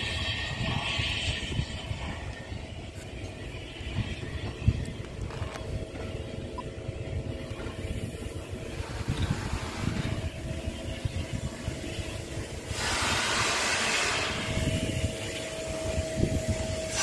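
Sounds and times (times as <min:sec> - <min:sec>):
train rumbling into station: 0:00.0 - 0:17.0.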